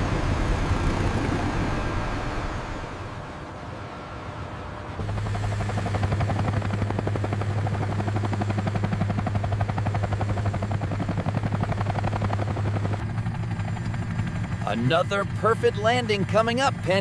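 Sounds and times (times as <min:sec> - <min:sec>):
helicopter engine hum: 0:00.0 - 0:17.0
helicopter rotor chopping: 0:00.0 - 0:17.0.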